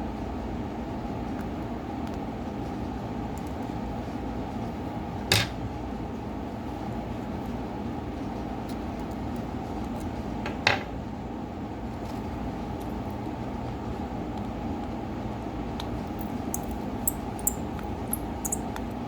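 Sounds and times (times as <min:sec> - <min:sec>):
fan-like hum: 0:00.0 - 0:19.0.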